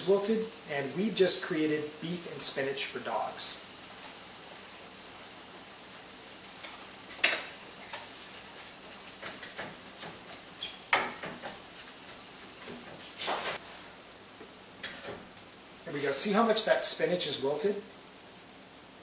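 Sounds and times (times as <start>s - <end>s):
meat and spinach sizzling in skillet: 0.0s - 19.0s.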